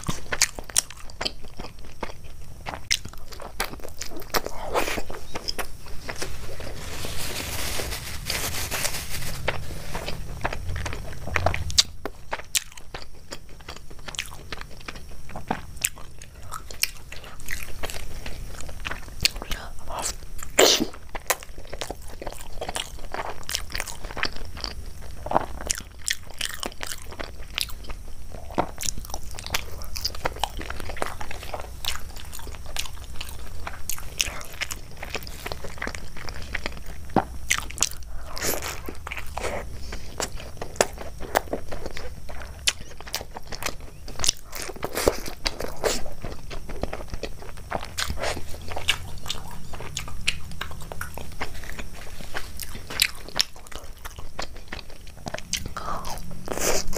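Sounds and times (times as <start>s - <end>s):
low steady hum: 0.0s - 56.9s
person chewing crunchy food: 0.0s - 56.9s.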